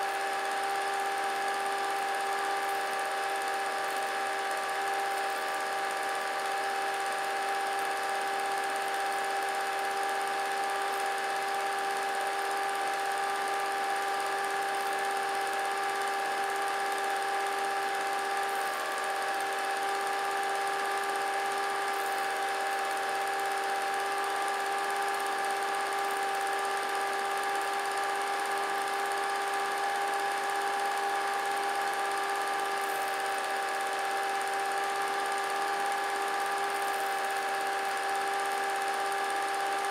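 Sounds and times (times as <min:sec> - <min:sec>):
small motor whining: 0:00.0 - 0:39.9.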